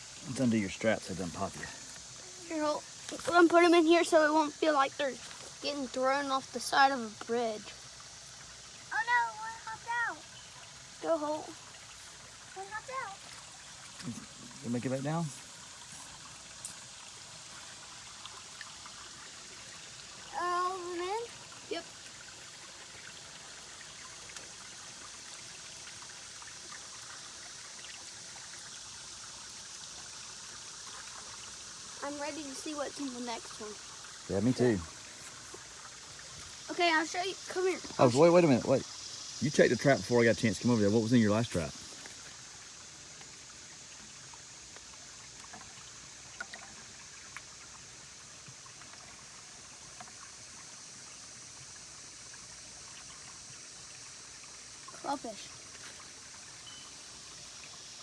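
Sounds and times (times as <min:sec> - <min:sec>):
creek water trickling: 0:00.0 - 0:58.0.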